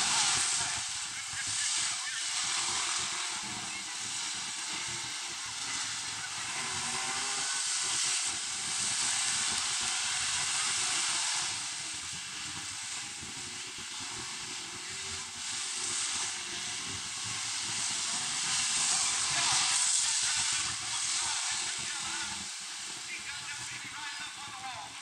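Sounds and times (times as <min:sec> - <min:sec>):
race car engines rushing: 0:00.0 - 0:13.3, 0:13.9 - 0:25.0.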